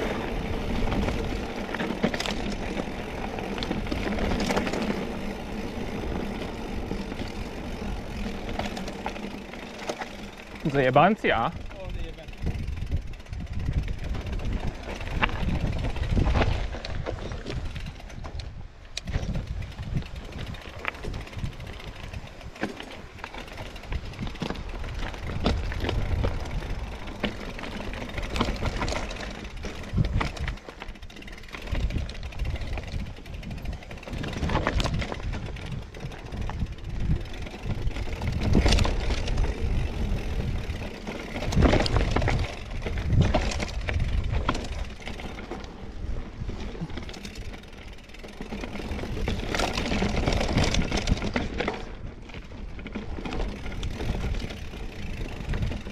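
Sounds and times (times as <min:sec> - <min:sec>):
bike knocking and rattling: 0:00.0 - 0:55.9
bike tyres crunching over stones: 0:00.0 - 0:55.9.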